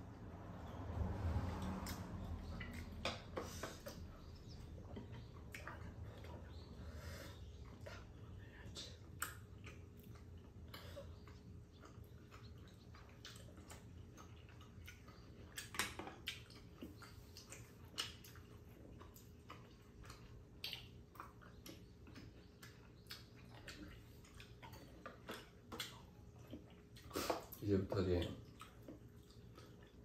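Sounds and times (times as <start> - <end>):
low steady hum: 0.0 - 30.0
chewing mouth clicks and smacks: 1.3 - 6.8, 7.4 - 30.0.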